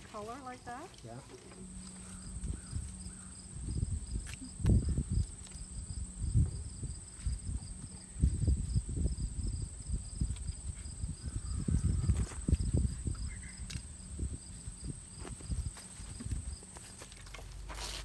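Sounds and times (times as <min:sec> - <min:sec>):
crickets chirping: 0:00.0 - 0:18.0
low rumbles: 0:01.6 - 0:16.7.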